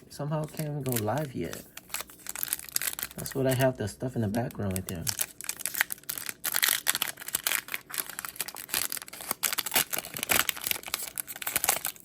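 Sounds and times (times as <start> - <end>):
foil wrapper tearing and crinkling: 0.4 - 12.0.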